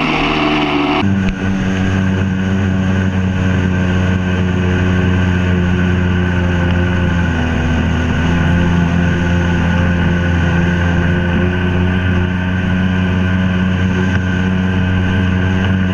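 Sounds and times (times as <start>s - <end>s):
jet ski engine running: 0.0s - 15.9s
wind: 0.0s - 15.9s.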